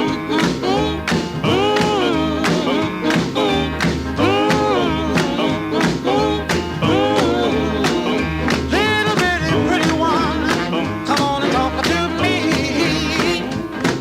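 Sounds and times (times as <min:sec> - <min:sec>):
song with singing and guitar: 0:00.0 - 0:14.0
steady drum beat: 0:00.0 - 0:14.0.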